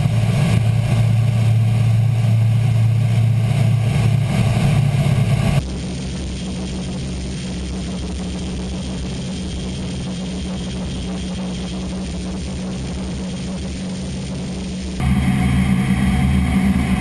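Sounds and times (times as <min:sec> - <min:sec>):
aircraft engines droning: 0:00.0 - 0:11.4, 0:12.1 - 0:17.0.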